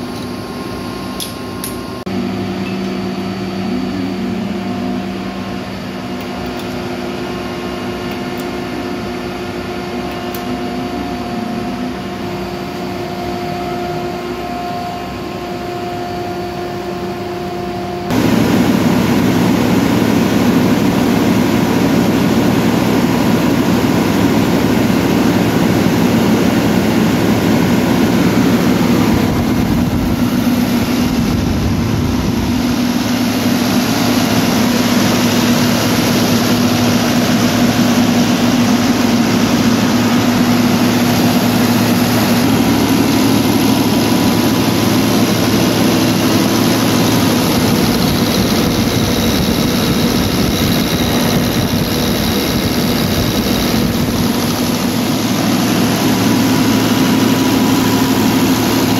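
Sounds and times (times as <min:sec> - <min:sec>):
diesel generator engine running: 0:00.0 - 0:58.9.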